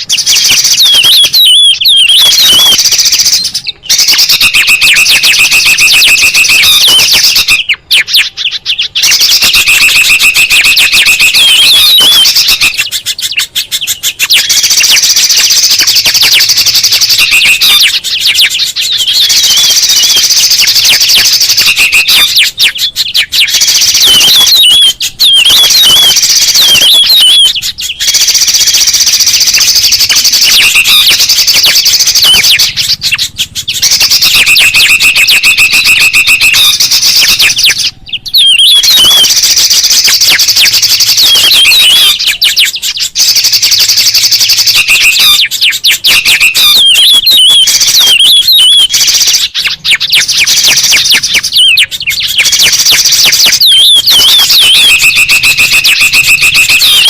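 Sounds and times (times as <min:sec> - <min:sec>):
chorus of songbird calls: 0:00.0 - 0:57.0.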